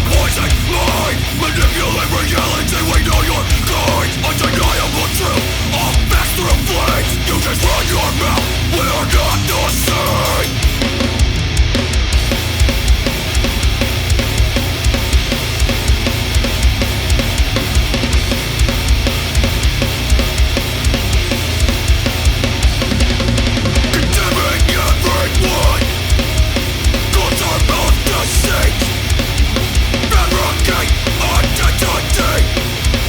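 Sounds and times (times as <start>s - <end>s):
heavy instrumental rock music: 0.0s - 33.0s.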